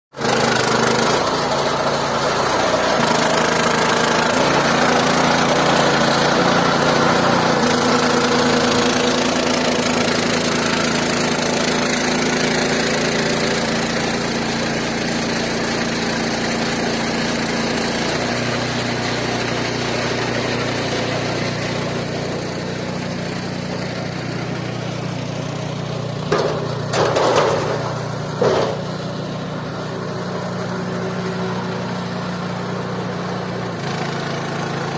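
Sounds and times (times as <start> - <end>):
sawmill engine running: 0.2 - 34.9.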